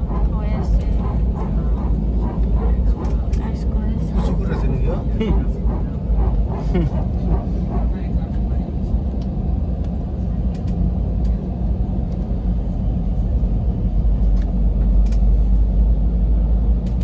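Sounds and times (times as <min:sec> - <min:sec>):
jet cabin rumble: 0:00.0 - 0:17.0.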